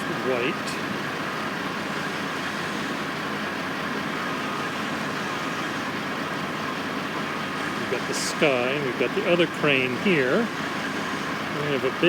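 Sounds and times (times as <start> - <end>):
construction machinery din: 0.0 - 12.0
vehicle engines running: 0.0 - 12.0.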